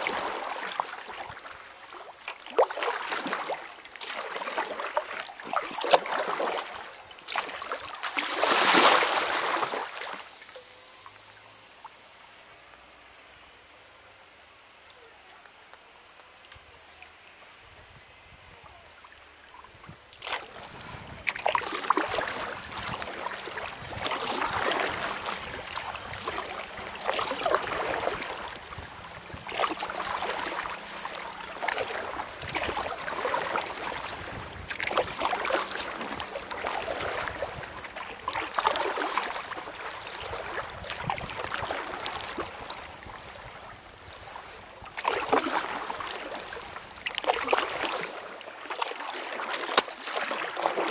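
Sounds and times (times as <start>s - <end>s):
kayak paddle splashing: 0.0s - 12.0s, 18.6s - 50.9s.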